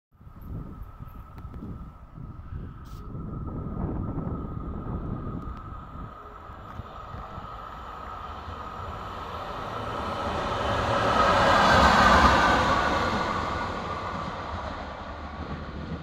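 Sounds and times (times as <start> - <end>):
electric locomotive passing: 0.2 - 16.0.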